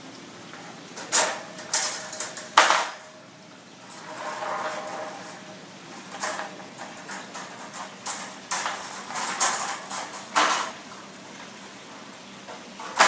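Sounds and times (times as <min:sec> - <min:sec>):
metal crate panels clanking: 0:00.6 - 0:03.2, 0:03.8 - 0:13.0.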